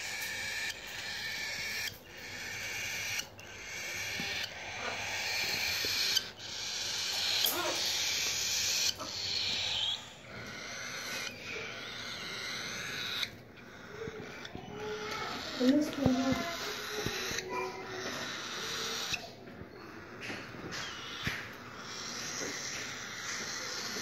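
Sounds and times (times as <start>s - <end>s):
chicks raspy begging calls: 0.0s - 24.0s.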